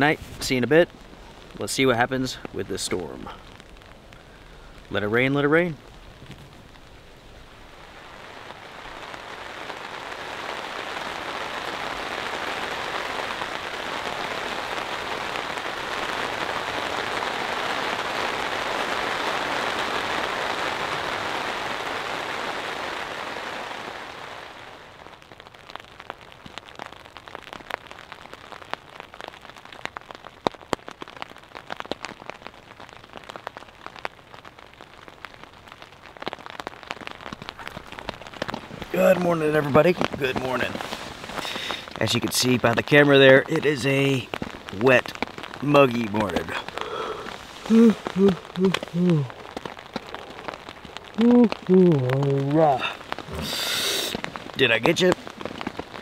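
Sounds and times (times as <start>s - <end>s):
heavy rain on a tent: 0.0s - 56.0s
raindrops tapping on fabric: 0.9s - 7.1s, 7.8s - 56.0s.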